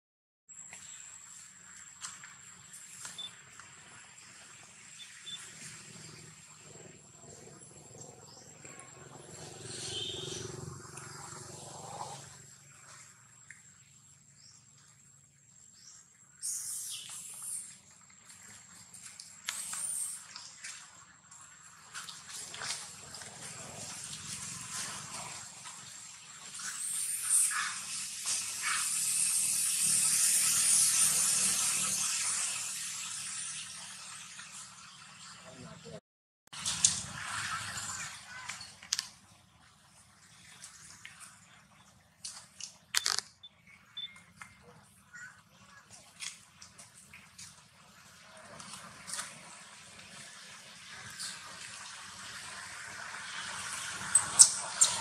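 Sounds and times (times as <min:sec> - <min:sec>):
mixed outdoor sounds: 0:00.5 - 0:55.0.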